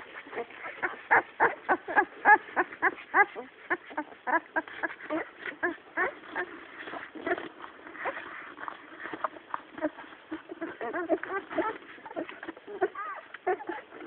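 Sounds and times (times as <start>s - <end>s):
puppies squeaking and whimpering: 0.0s - 14.0s.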